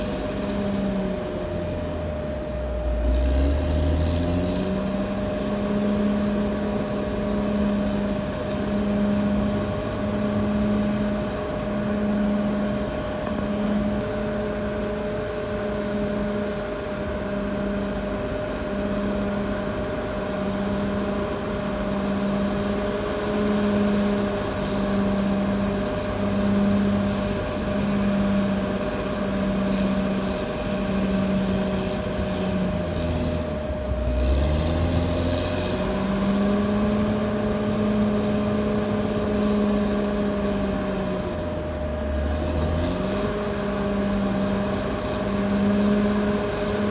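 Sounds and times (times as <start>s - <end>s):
bulldozer diesel engine running: 0.0s - 46.9s
high engine whine: 0.0s - 46.9s.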